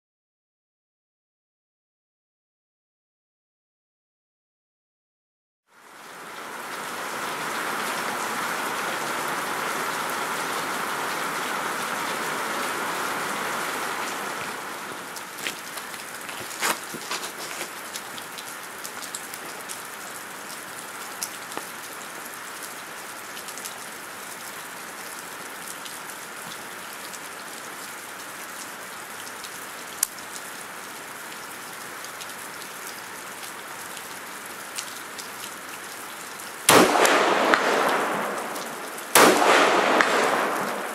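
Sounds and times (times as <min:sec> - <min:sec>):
steady rain-like hiss: 0:05.7 - 0:40.9.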